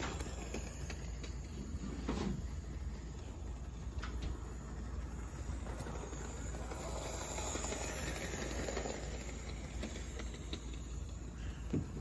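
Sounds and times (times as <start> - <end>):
toy train motor and wheels: 0.0 - 12.0.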